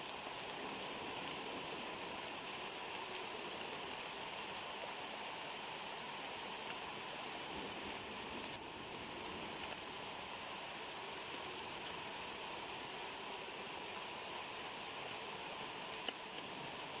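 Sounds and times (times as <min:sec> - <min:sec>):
rain hissing: 0:00.0 - 0:17.0.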